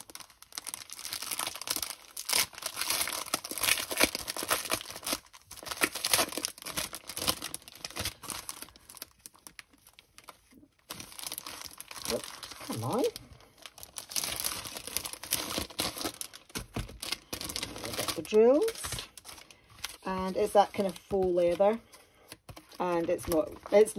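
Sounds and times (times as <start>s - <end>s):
plastic packaging crinkling and tearing: 0.0s - 23.9s.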